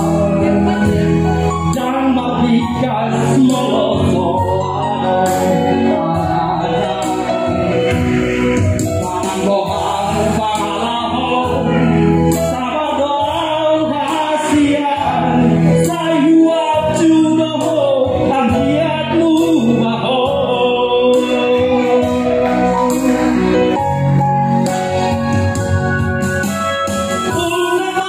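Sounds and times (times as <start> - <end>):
man singing into a microphone: 0.0 - 25.1, 27.0 - 28.0
backing music: 0.0 - 28.0.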